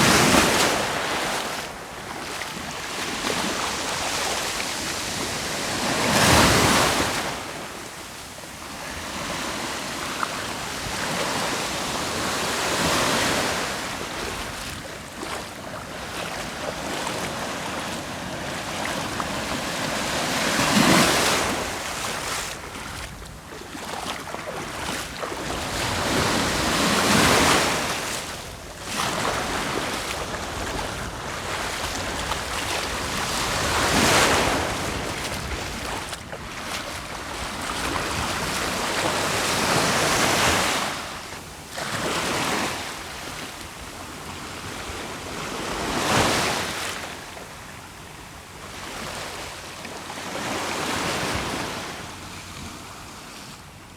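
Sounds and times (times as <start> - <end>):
sea waves breaking on shore: 0.0 - 47.4.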